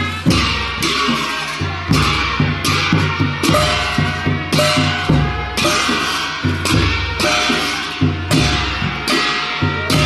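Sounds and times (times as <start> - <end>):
large drum beating: 0.0 - 10.0.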